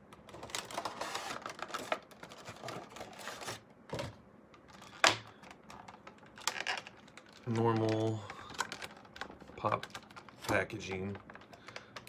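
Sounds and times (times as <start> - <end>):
plastic and cardboard crinkling: 0.2 - 12.0.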